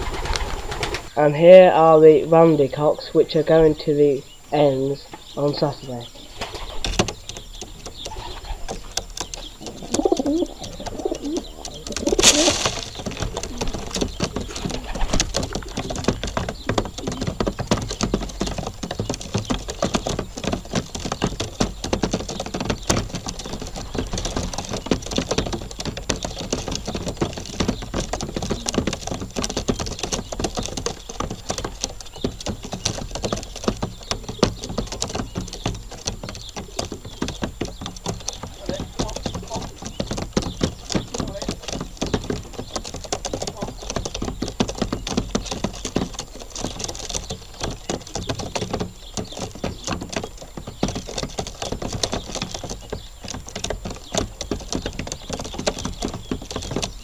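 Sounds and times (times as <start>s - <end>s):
pigeons pecking on hard floor: 0.0s - 1.1s, 6.2s - 57.0s
pigeons cooing: 5.6s - 57.0s.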